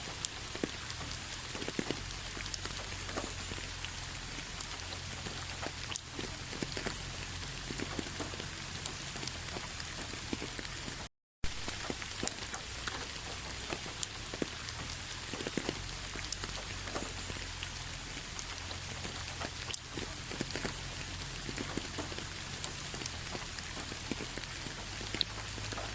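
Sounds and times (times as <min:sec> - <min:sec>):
steady rainfall: 0:00.0 - 0:25.9.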